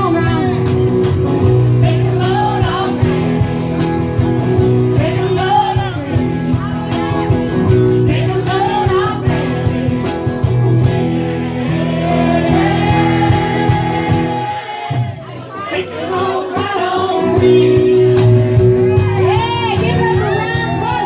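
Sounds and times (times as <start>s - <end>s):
guitar accompaniment: 0.0s - 21.0s
people singing: 1.7s - 4.1s, 4.7s - 21.0s.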